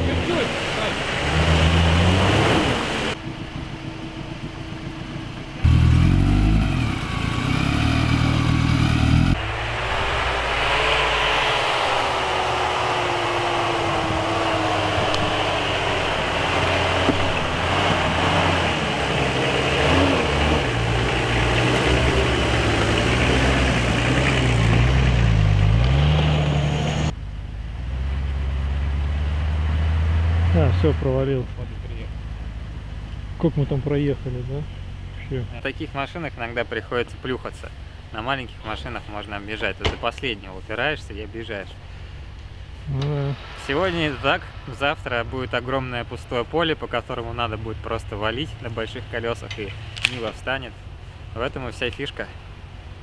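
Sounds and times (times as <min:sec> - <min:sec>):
off-road engines revving: 0:00.0 - 0:53.0.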